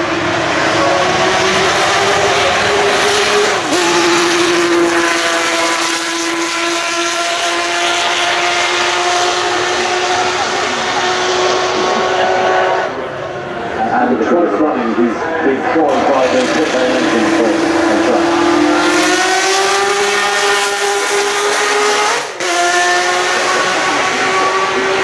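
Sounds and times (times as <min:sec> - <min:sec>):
racing car engine at high revs: 0:00.0 - 0:25.0.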